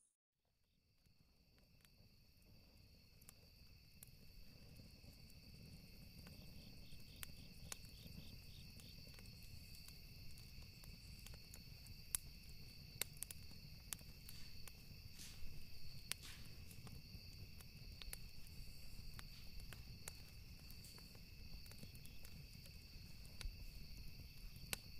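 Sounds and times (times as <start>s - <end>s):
night insects chorus: 1.3s - 24.9s
insect pulsing: 3.0s - 24.9s.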